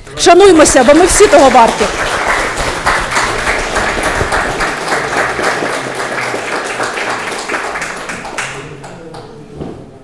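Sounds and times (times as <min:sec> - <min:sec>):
audience applause: 0:00.4 - 0:09.3.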